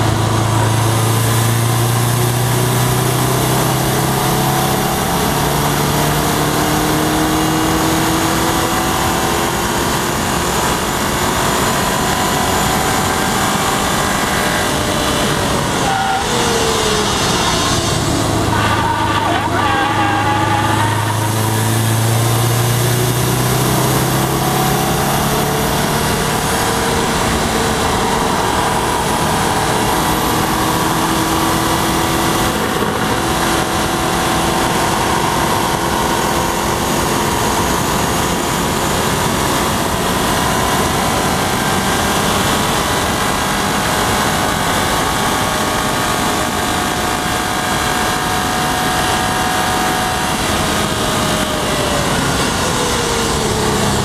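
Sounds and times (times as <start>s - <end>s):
car engine running hard: 0.0s - 54.0s
wind and road noise: 0.0s - 54.0s.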